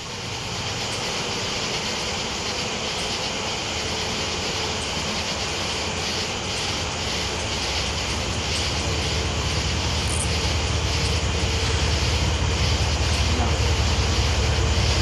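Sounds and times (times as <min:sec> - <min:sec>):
distant diesel locomotive rumble: 0:00.0 - 0:15.0
steady high hiss: 0:00.0 - 0:15.0.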